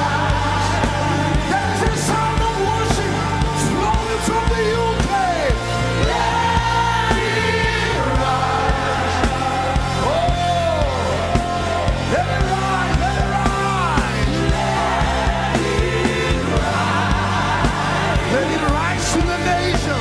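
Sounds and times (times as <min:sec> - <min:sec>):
drum beats: 0:00.0 - 0:20.0
held bass notes: 0:00.0 - 0:20.0.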